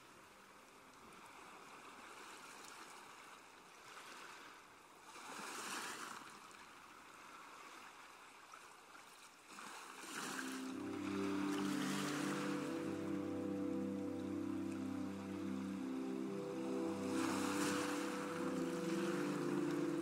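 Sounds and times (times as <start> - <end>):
faint rushing water: 0.1 - 20.0.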